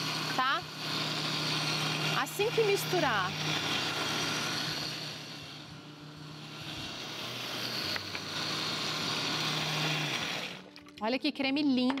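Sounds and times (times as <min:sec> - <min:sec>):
blender motor running: 0:00.0 - 0:10.9.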